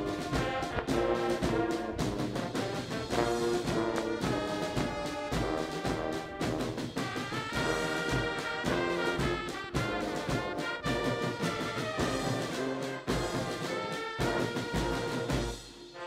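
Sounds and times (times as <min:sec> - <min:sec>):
military brass band playing a march: 0:00.0 - 0:16.0
regular drum beat: 0:00.0 - 0:16.0.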